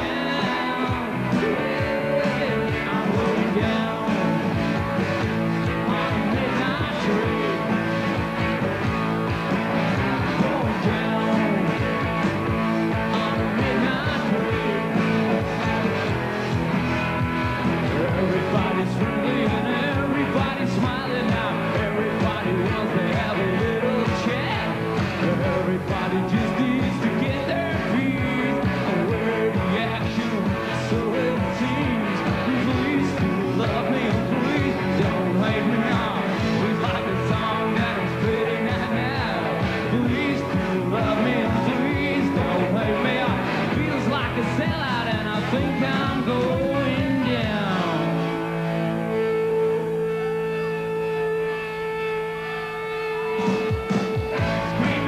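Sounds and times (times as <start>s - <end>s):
drums keeping a steady beat: 0.0s - 55.0s
rock band playing live: 0.0s - 55.0s.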